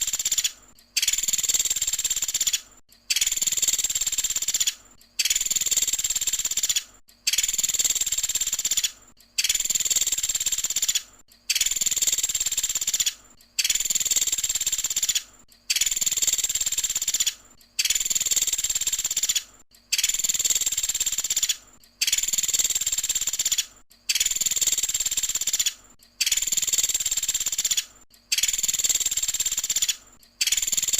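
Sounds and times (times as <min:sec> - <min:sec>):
woodpecker rattling call: 0:00.0 - 0:30.9.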